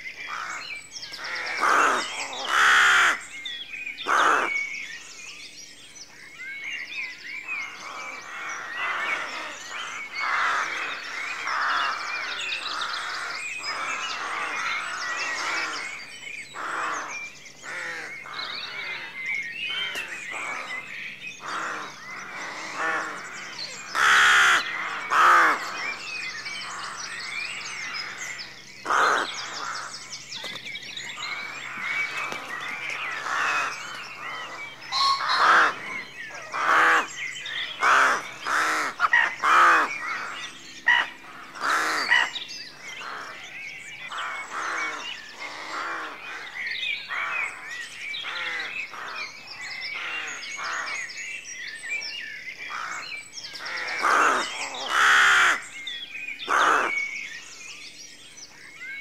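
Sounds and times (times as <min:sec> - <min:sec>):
small birds chirping: 0:00.0 - 0:59.0
rooks cawing: 0:00.2 - 0:03.3, 0:04.0 - 0:04.6, 0:07.6 - 0:30.2, 0:31.0 - 0:51.2, 0:52.6 - 0:55.7, 0:56.4 - 0:57.2.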